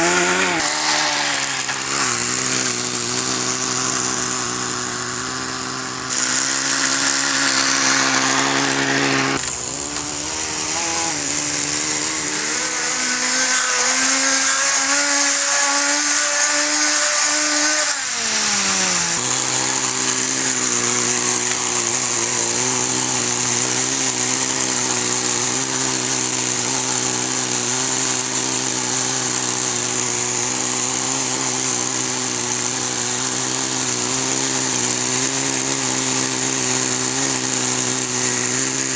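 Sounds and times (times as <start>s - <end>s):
small nitro engine idling and revving: 0.0s - 38.9s.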